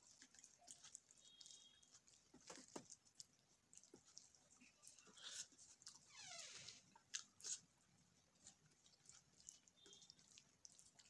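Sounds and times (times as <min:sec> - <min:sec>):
close-up chewing: 0:00.0 - 0:11.0.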